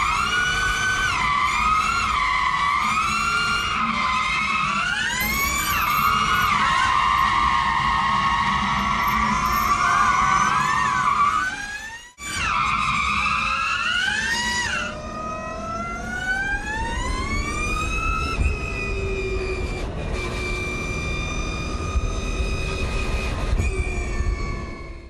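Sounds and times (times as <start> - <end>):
electric motor whining: 0.0 - 25.0.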